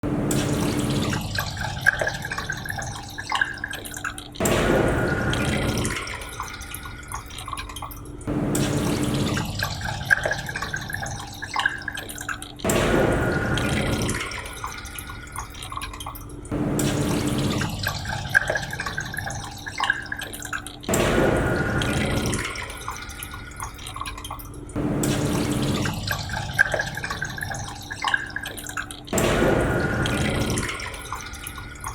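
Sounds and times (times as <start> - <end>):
urinal flushing: 0.1 - 31.9
water trickling and dripping: 0.1 - 31.9.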